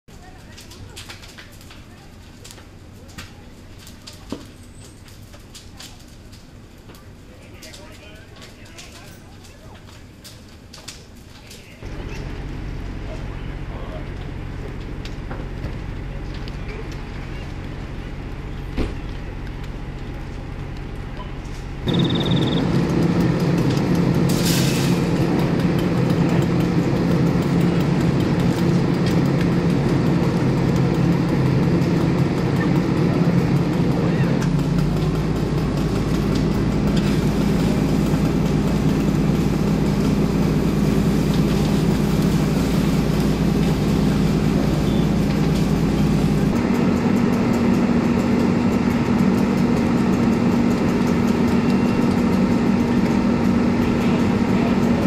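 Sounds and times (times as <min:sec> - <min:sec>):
engine droning steadily: 0:00.1 - 0:55.0.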